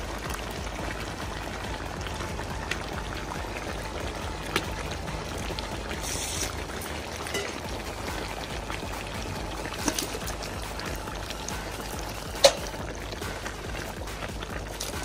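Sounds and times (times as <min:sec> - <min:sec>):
stew bubbling in a wok: 0:00.0 - 0:15.0.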